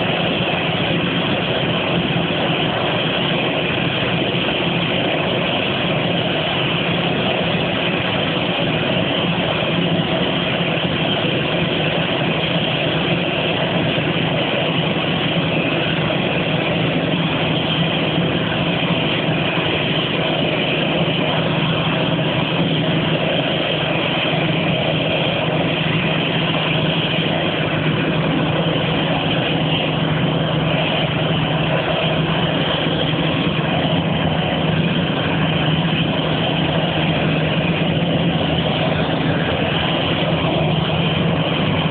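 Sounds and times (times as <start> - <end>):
jet engine roar and whine: 0.0 - 41.9.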